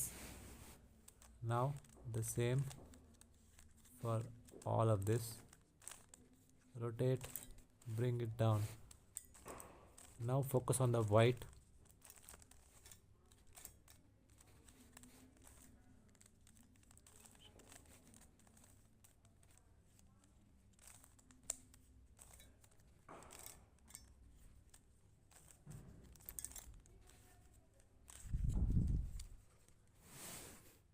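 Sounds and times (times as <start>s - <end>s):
puzzle cube clicking and rustling: 0.0s - 30.9s.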